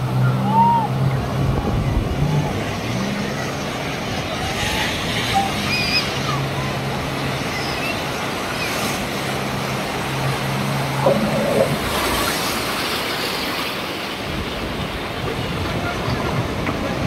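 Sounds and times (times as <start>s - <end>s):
breaking surf: 0.0s - 17.0s
jet ski engine humming: 0.0s - 17.0s
rush of spray and water: 0.0s - 17.0s.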